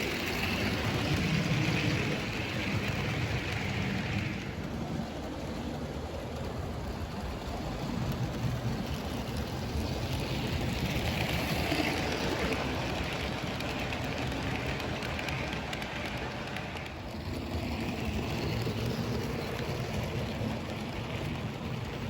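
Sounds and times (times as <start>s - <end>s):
model train wheels and motor: 0.0s - 22.0s.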